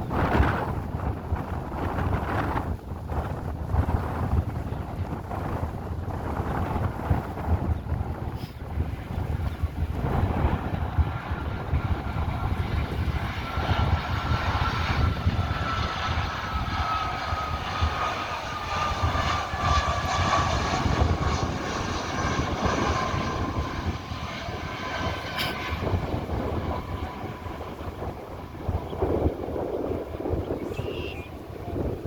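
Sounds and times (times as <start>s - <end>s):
airliner jet engines whining: 0.0s - 32.0s
wind rumble on microphone: 0.0s - 32.0s.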